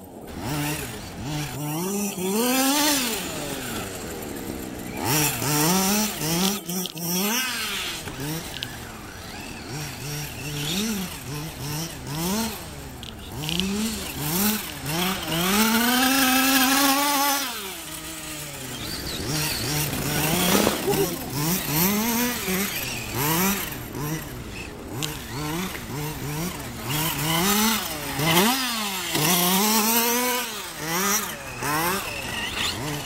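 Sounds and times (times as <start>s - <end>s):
small two-stroke engine revving: 0.0s - 33.0s.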